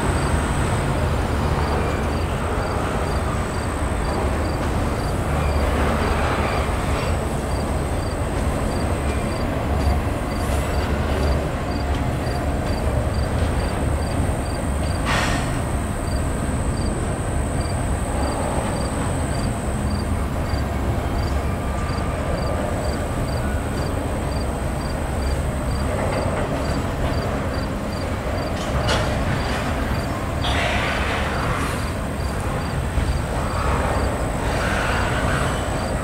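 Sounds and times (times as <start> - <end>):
freight train rumbling past: 0.0 - 36.0
sharp noise from train cars: 0.0 - 36.0.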